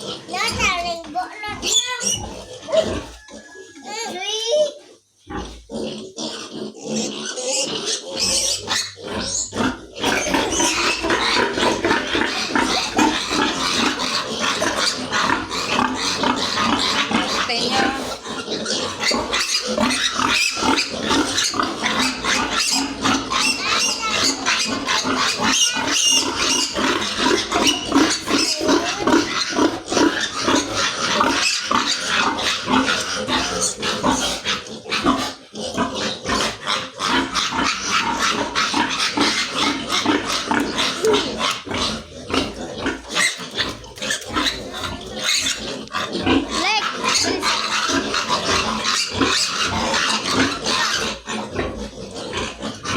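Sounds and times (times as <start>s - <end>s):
piglets squealing: 0.0s - 52.9s.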